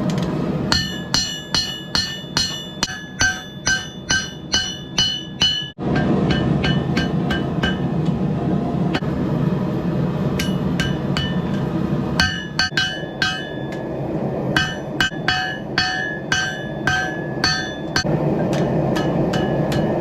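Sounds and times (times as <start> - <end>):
hammer striking steel on anvil: 0.7 - 8.2, 10.3 - 20.0.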